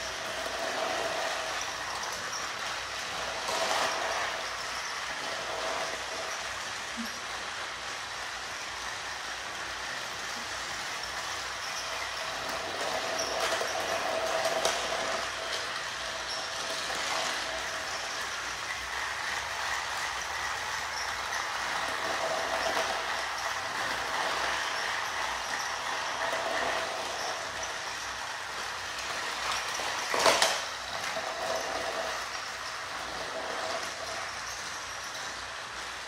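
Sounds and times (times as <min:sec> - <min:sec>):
toy train motors whirring: 0:00.0 - 0:36.0.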